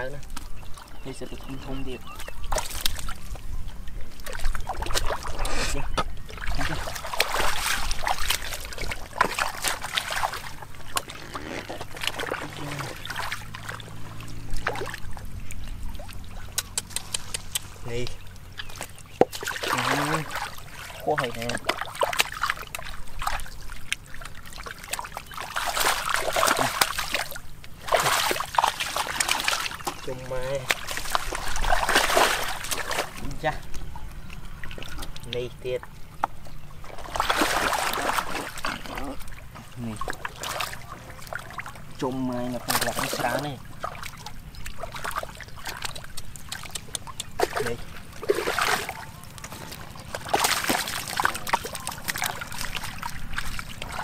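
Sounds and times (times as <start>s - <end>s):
hands splashing in muddy water: 1.8s - 3.5s, 4.2s - 35.4s, 36.8s - 54.0s.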